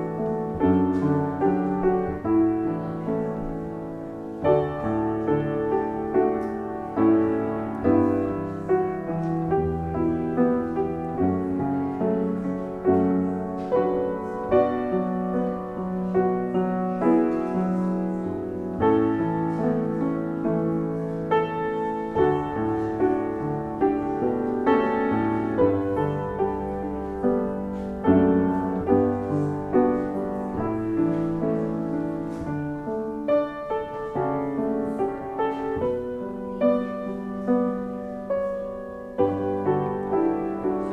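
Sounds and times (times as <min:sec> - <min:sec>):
piano playing slow chords: 0:00.0 - 0:40.9.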